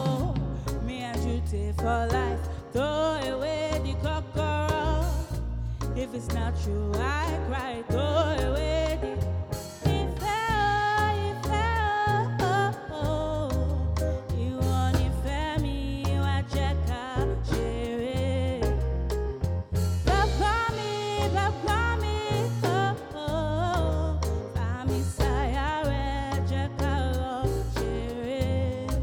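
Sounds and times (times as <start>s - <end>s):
deep bass line: 0.0s - 29.0s
drums: 0.0s - 29.0s.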